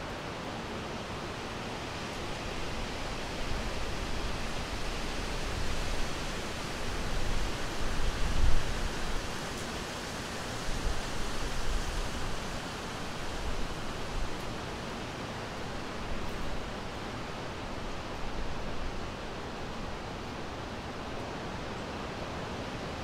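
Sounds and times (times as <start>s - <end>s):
wind rushing with gusts: 1.2s - 23.0s.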